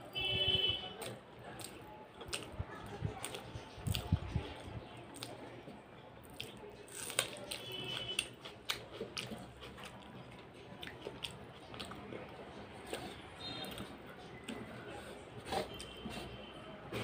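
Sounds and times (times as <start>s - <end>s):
chewing: 1.0s - 16.4s.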